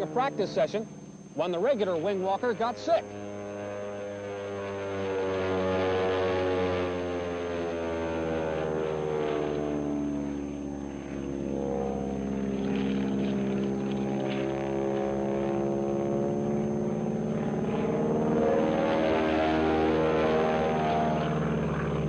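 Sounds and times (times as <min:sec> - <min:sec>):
propeller plane engine in flight: 0:00.0 - 0:22.0.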